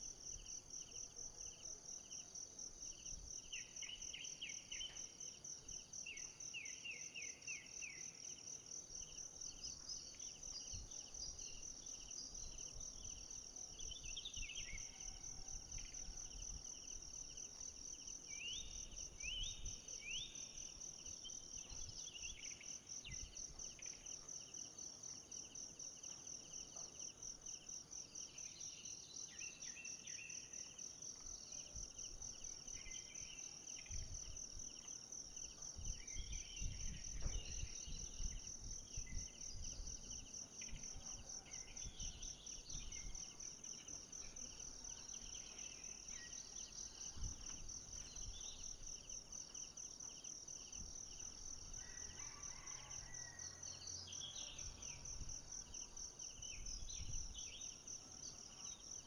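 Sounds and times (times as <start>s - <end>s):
insects trilling chorus: 2.9s - 59.0s.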